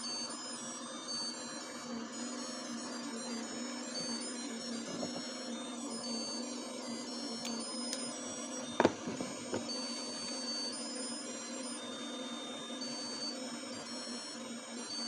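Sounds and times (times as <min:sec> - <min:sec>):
faint electronic tune: 0:00.0 - 0:15.0
steady hum: 0:00.0 - 0:15.0.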